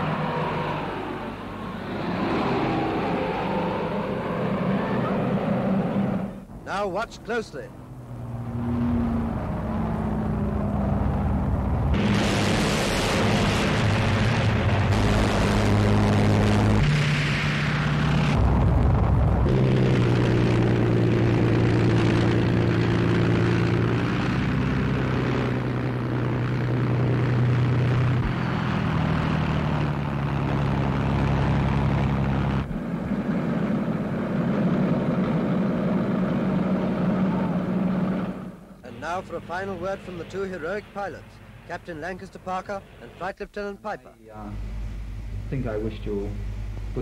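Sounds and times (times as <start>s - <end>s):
propeller aircraft engines droning: 0.0s - 47.0s.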